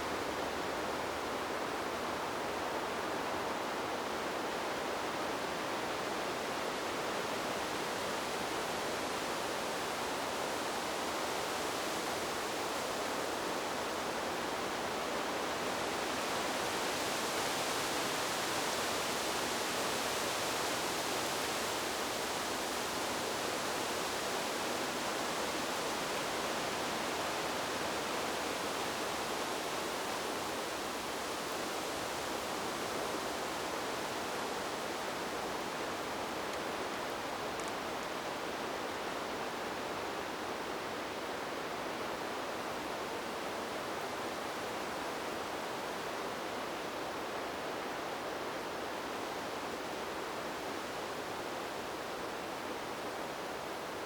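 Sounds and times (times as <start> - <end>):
wind rushing through trees: 0.0 - 54.0.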